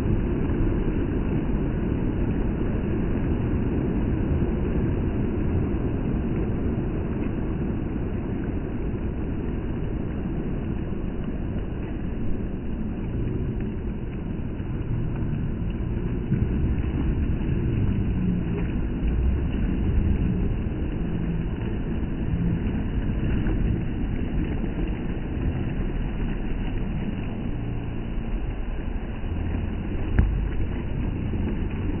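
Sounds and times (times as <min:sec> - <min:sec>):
waves washing onto sand: 0:00.0 - 0:32.0
wind rumble on microphone: 0:00.0 - 0:32.0.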